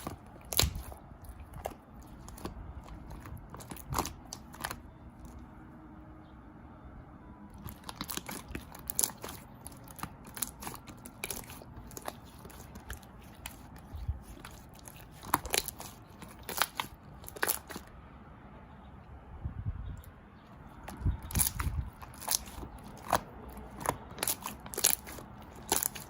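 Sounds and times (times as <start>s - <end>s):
grapes crunching when bitten: 0.0s - 5.4s, 7.5s - 17.9s, 20.8s - 26.0s.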